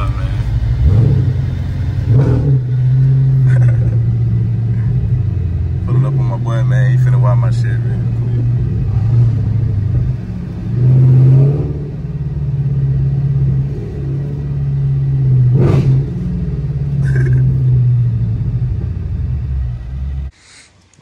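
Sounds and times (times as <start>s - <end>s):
car engine exhaust drone: 0.0s - 20.4s.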